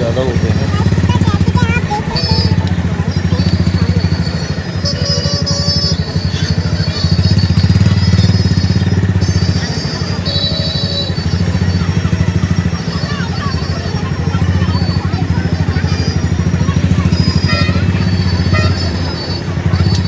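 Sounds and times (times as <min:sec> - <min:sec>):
motorbike and vehicle engines: 0:00.0 - 0:20.0.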